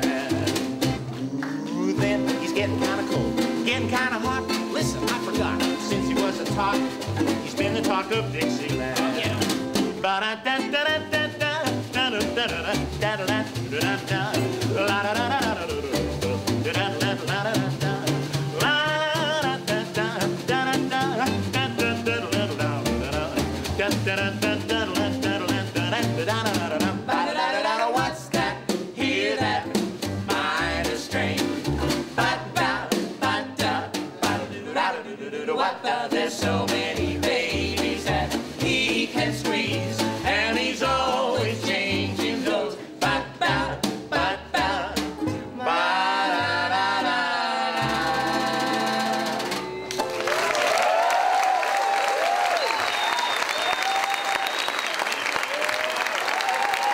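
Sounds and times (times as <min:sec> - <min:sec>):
person singing: 0:00.0 - 0:29.7, 0:32.2 - 0:50.2
snare drum swing rhythm: 0:00.0 - 0:35.0, 0:35.9 - 0:46.6, 0:47.8 - 0:50.8
ukulele strumming: 0:00.0 - 0:35.0, 0:35.8 - 0:50.7
upright double bass: 0:00.0 - 0:54.7.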